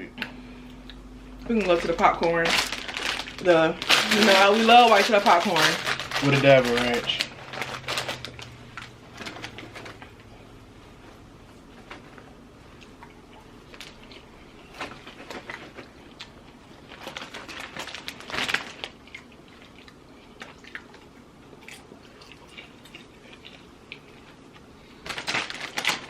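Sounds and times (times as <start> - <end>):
popcorn crunching and chewing: 0.7 - 10.5, 11.7 - 26.0.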